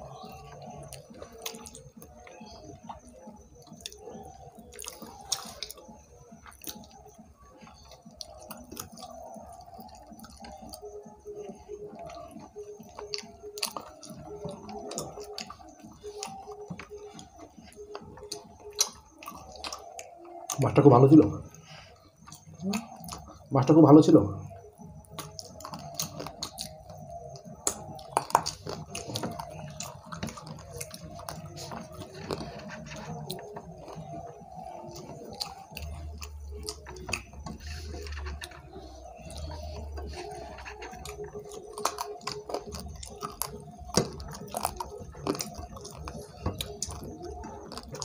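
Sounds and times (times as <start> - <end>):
chewing and wet mouth sounds: 0.0 - 23.8, 24.4 - 48.0.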